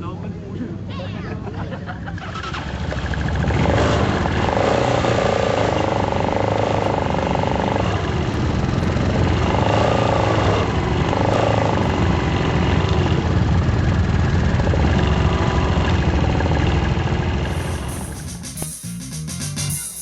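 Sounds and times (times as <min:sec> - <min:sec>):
atv engine running: 0:02.0 - 0:18.3.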